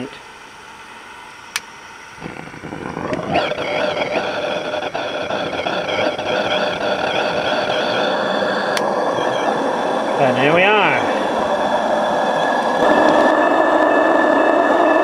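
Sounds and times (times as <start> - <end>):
gas burner rushing: 1.5 - 15.0
wavering whistle: 2.2 - 15.0.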